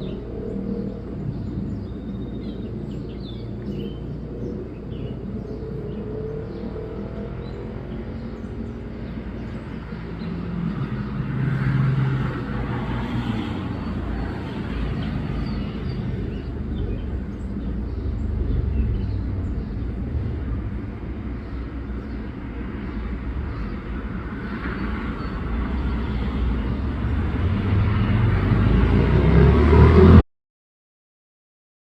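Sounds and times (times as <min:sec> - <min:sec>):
road traffic rumble: 0:00.0 - 0:30.2.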